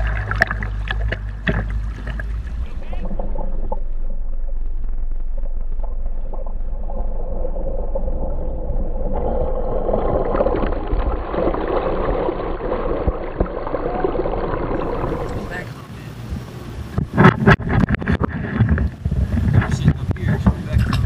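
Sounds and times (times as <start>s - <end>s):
muffled rushing water and wind: 0.0s - 21.0s
water splashing: 0.0s - 21.0s.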